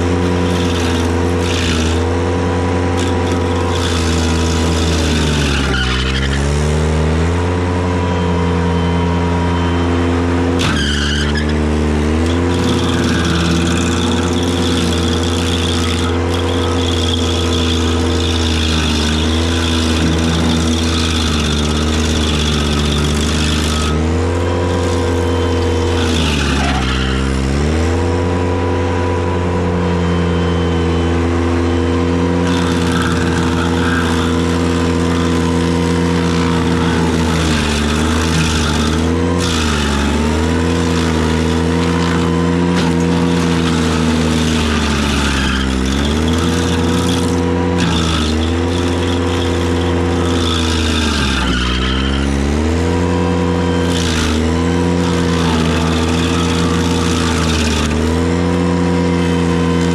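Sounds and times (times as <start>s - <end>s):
stump grinder grinding: 0.0s - 59.9s
tractor engine running hard: 0.0s - 59.9s.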